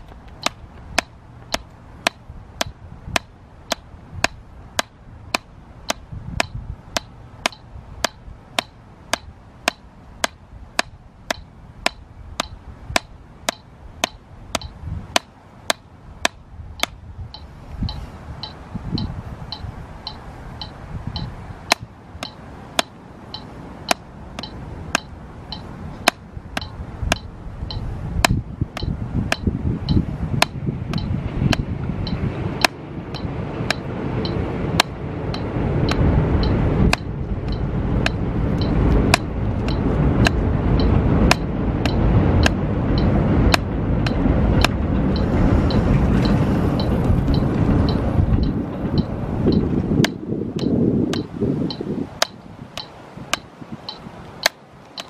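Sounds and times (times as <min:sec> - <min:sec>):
drumsticks tapping a practice pad: 0:00.0 - 0:55.0
low rumbling noise: 0:00.0 - 0:55.0.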